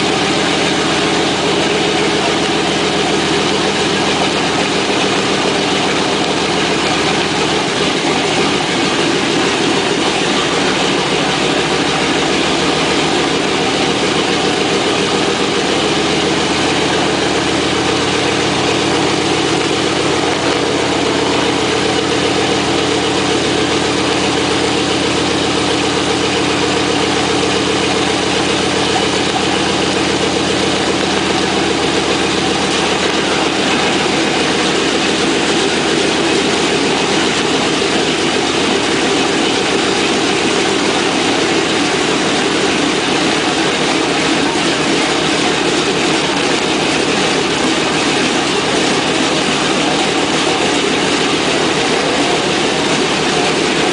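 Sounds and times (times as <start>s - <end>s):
radial aircraft engines running: 0.0s - 53.9s.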